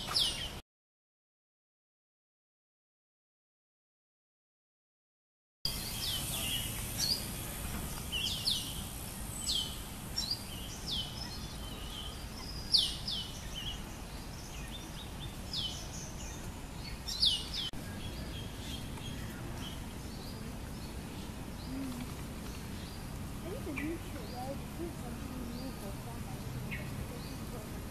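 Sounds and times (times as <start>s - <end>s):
bird chirping: 0.0s - 0.6s, 5.7s - 27.9s.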